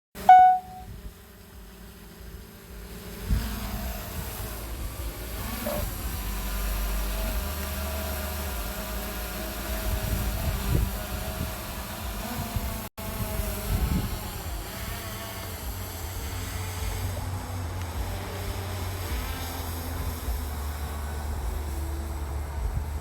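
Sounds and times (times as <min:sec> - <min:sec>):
wind rumble on microphone: 0:00.8 - 0:23.0
drone propellers buzzing: 0:01.1 - 0:23.0.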